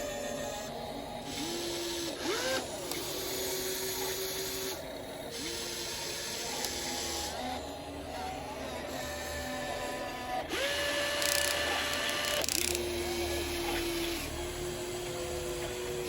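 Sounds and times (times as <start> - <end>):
electric gear motors whining: 0.0 - 16.0.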